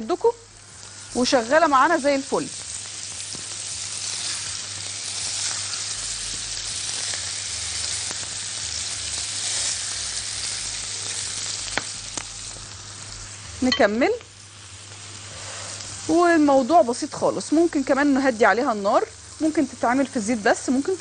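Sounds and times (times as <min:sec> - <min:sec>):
meatballs sizzling in a pan: 0:00.0 - 0:21.0.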